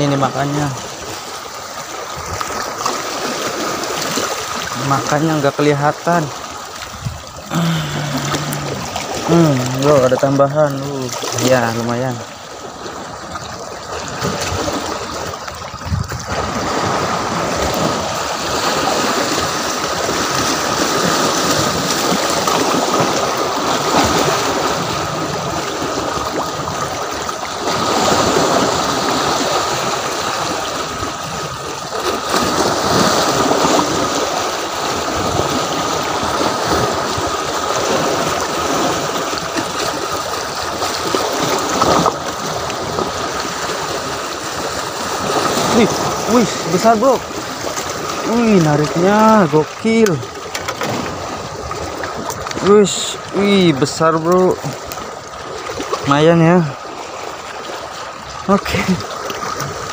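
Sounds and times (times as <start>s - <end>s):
waves lapping against rocks: 0.0s - 59.9s.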